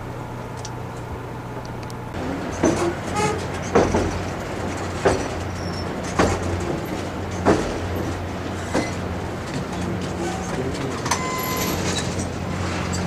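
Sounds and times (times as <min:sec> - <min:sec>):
train rumbling: 0:00.0 - 0:13.0
train wheel clacking: 0:02.2 - 0:13.0.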